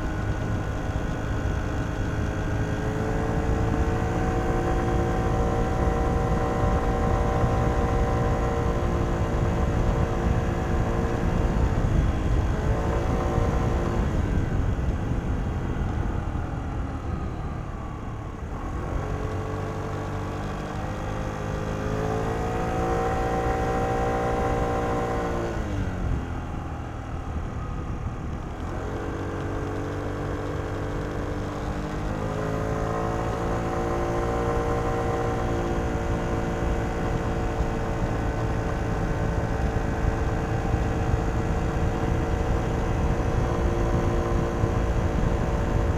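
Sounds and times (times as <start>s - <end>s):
scooter engine while riding: 0.0s - 45.9s.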